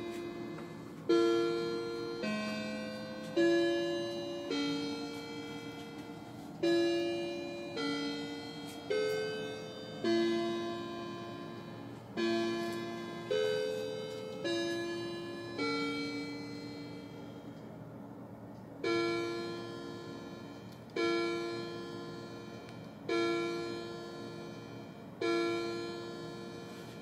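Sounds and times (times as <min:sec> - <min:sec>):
clock striking the hour: 0:00.0 - 0:17.6, 0:18.8 - 0:27.0
clock chime tune: 0:00.0 - 0:17.7, 0:18.8 - 0:27.0.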